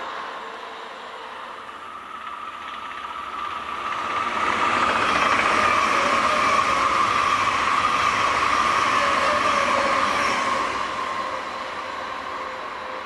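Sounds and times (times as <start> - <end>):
electric train passing with whine: 0.0 - 13.0.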